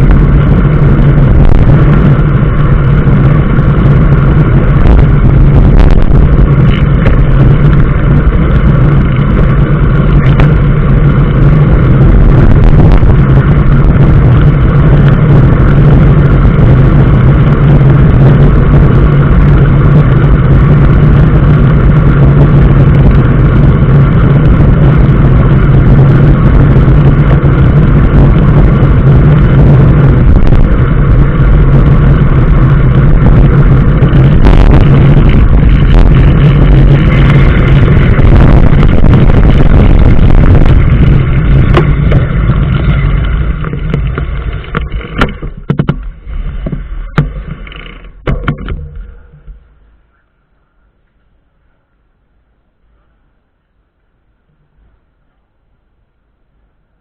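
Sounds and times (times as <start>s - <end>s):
road vehicle droning: 0.0s - 57.0s.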